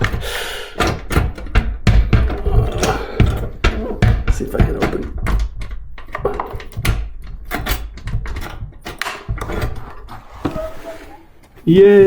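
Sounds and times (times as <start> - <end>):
safe clicking and rattling: 0.0 - 10.1.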